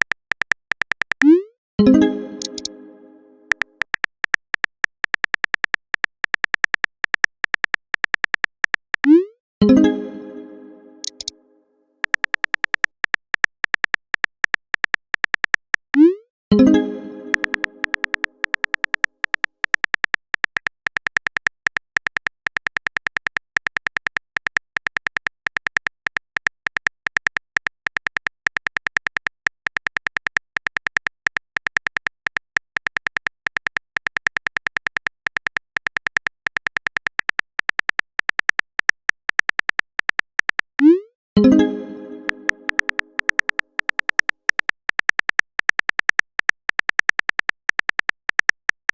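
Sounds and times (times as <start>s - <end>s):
keyboard typing clicks: 0.0s - 11.4s, 12.0s - 48.9s.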